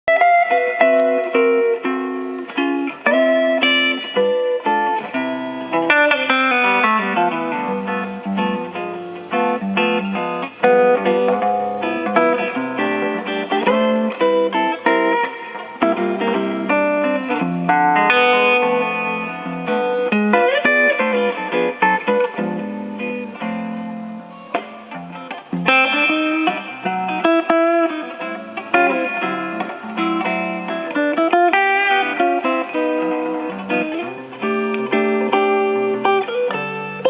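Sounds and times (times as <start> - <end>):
guitar playing runs and chords: 0.0 - 37.0.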